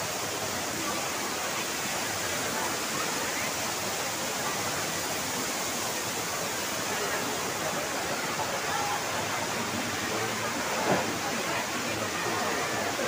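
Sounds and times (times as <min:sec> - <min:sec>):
faint crowd voices: 0:00.0 - 0:13.0
waterfall rushing: 0:00.0 - 0:13.0.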